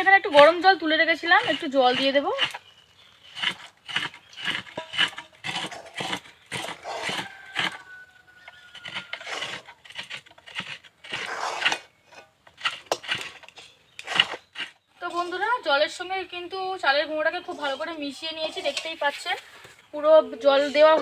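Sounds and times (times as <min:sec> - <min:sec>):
spatula scraping dough in pan: 0:00.3 - 0:15.6, 0:17.3 - 0:21.0.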